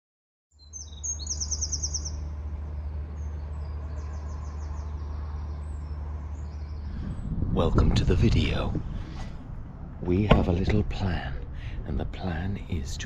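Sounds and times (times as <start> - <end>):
small birds trilling: 0.6 - 13.0
steady low hum: 0.6 - 13.0.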